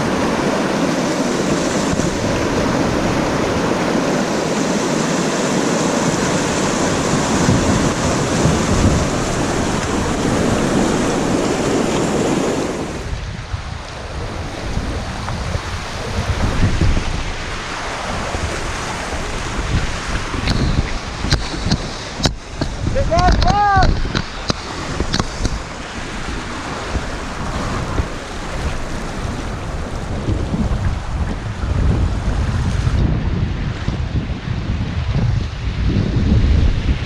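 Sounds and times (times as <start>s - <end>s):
river water rushing: 0.0s - 32.5s
wind buffeting the microphone: 0.0s - 37.0s.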